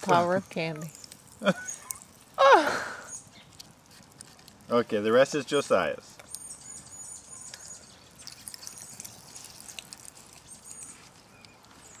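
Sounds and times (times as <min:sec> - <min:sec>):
light clicks and crackles: 0:00.0 - 0:02.4, 0:03.2 - 0:04.9, 0:05.6 - 0:06.8, 0:07.4 - 0:12.0.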